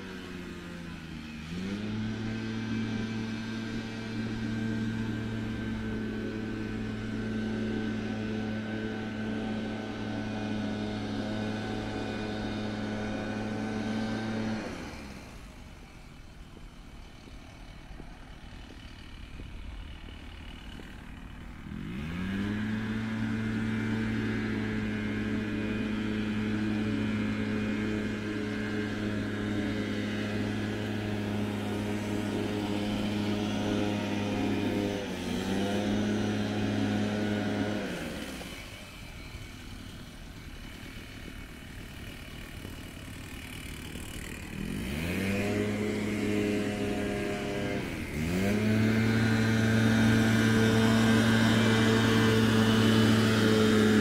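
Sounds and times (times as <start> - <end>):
engine running and revving: 0.0 - 54.0.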